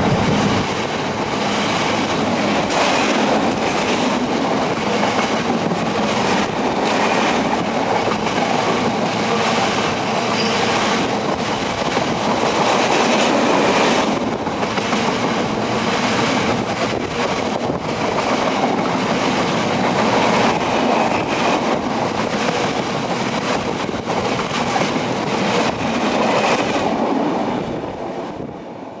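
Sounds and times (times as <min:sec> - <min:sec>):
train wheels clattering over rail joints: 0:00.0 - 0:27.3.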